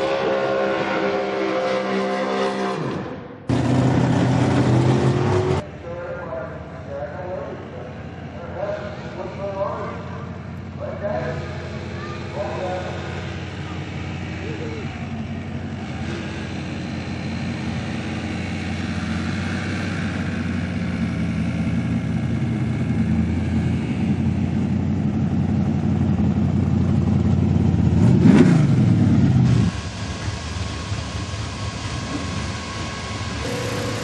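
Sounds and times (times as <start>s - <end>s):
drag car engine rumbling: 0.0s - 34.0s.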